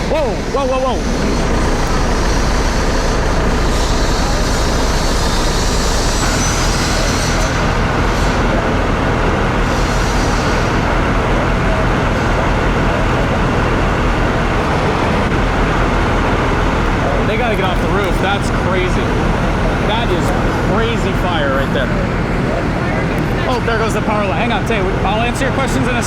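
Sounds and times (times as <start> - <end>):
structure fire rumbling: 0.0 - 26.0.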